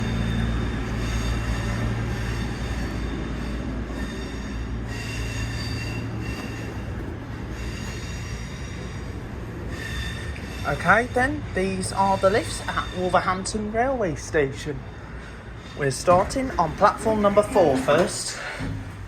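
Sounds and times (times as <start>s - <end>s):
high squealing of wheels or brakes: 0.0s - 18.6s
train low hum: 0.0s - 19.0s.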